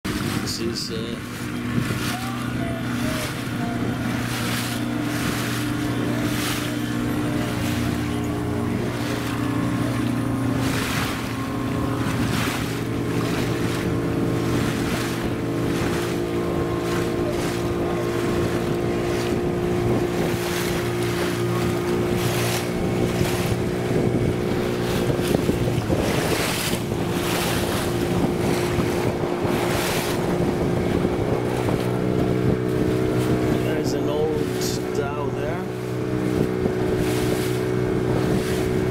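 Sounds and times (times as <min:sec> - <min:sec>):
motorboat engine running: 0:00.0 - 0:38.9
water rushing past hull: 0:00.0 - 0:38.9
wind buffeting microphone: 0:00.0 - 0:38.9.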